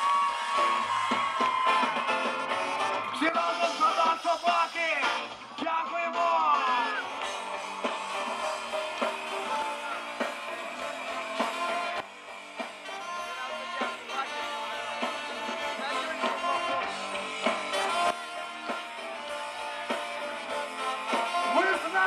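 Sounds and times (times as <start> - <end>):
drum kit beat: 0.0 - 22.0
electric guitar: 0.0 - 22.0
live rock band playing: 0.0 - 22.0.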